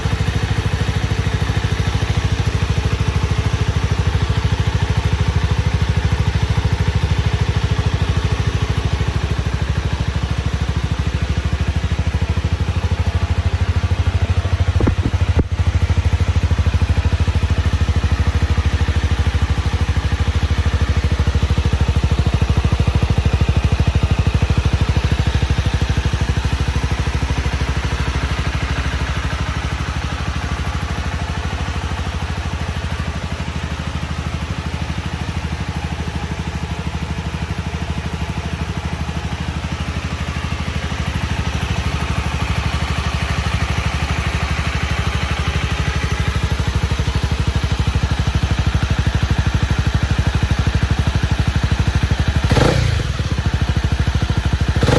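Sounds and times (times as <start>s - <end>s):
motorcycle engine idling: 0.0s - 54.9s.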